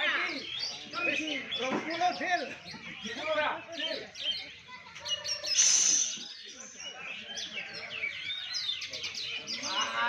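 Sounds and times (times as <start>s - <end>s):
birds singing chirps and whistles: 0.0s - 10.0s
faint voices: 0.0s - 10.0s.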